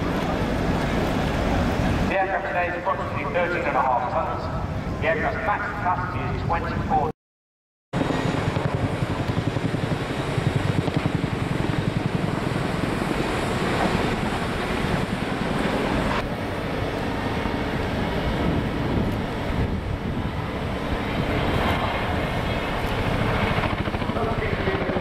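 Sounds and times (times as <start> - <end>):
helicopter rotor beat: 0.0 - 7.0, 8.0 - 25.0.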